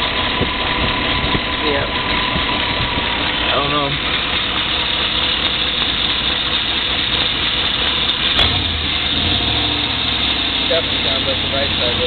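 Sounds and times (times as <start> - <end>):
car engine idling: 0.0 - 12.0
engine knocking: 0.0 - 12.0.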